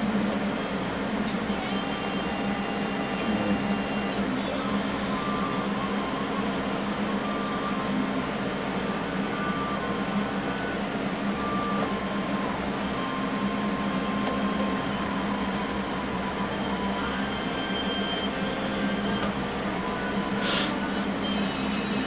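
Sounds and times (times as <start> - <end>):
electric fan motor humming: 0.0 - 22.0.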